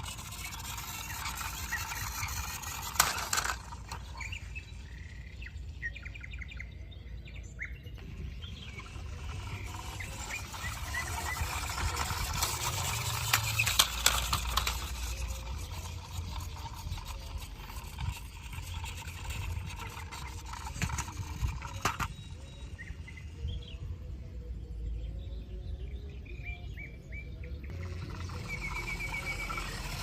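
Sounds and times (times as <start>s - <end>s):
steady low rumble: 0.0s - 26.4s
faint bird chirps: 3.9s - 30.0s.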